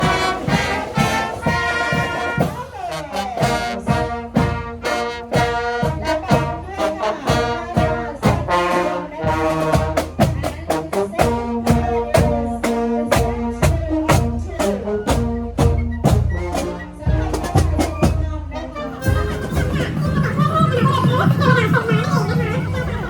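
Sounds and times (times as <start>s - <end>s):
drum beat: 0.0s - 18.4s, 19.1s - 23.0s
trumpets and trombones playing: 0.0s - 23.0s.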